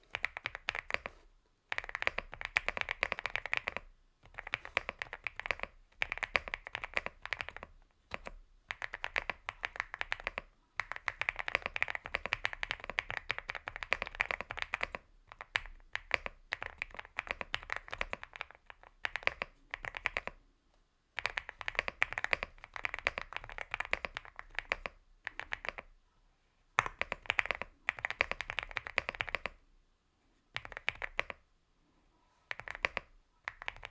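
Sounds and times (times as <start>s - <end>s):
mechanical keyboard typing: 0.0s - 20.4s, 21.2s - 25.9s, 26.8s - 29.6s, 30.6s - 31.4s, 32.5s - 33.9s.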